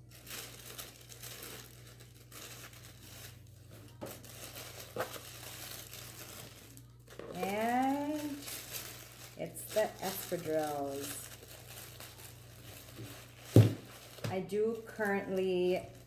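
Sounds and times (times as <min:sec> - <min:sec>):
tissue paper rustling: 0:00.0 - 0:16.0.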